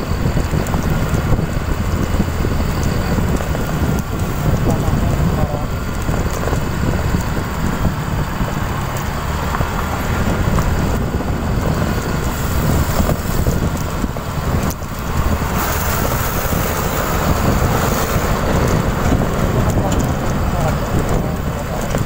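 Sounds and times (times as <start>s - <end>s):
road and traffic rumble: 0.0s - 22.0s
wind rushing over microphone: 0.0s - 22.0s.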